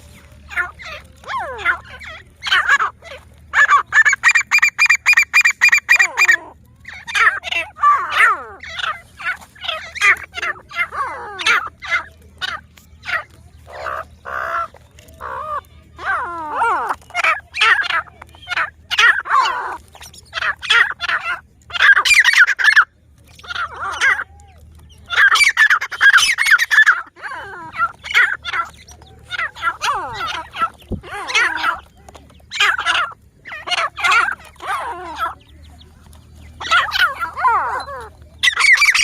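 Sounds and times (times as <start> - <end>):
francolin calling: 0.0 - 39.0.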